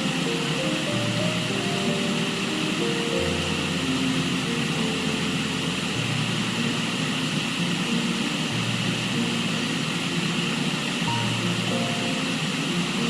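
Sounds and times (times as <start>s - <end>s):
river rushing: 0.0s - 13.0s
slow low background music: 0.0s - 13.0s.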